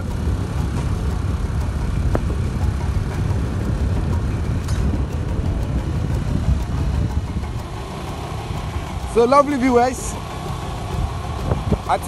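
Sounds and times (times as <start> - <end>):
road and engine rumble: 0.0 - 12.0
wind buffeting microphone: 0.0 - 12.0.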